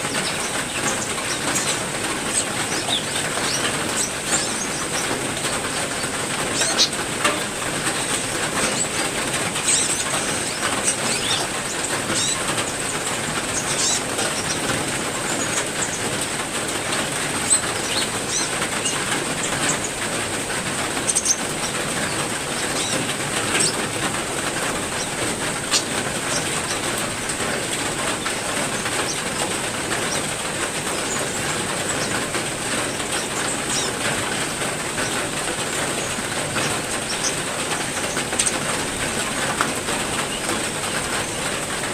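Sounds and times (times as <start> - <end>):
heavy rain falling: 0.0 - 41.9
songbirds chirping: 0.0 - 41.9.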